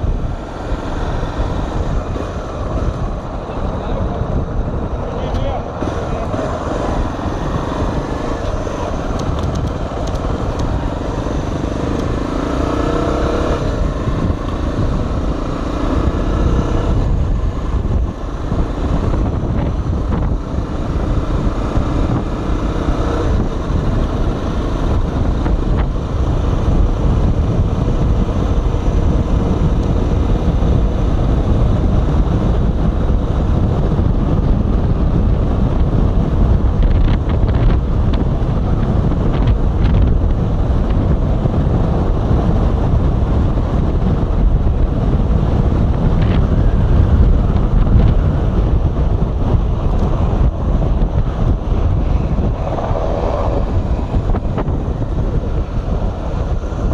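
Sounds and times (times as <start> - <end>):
motorcycle engine accelerating: 0.0 - 56.9
wind buffeting microphone: 0.0 - 56.9.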